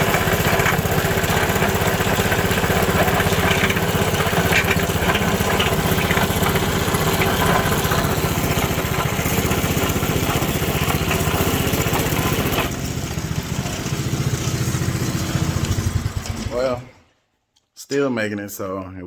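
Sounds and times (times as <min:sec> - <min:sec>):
small single-cylinder engine running: 0:00.0 - 0:17.0.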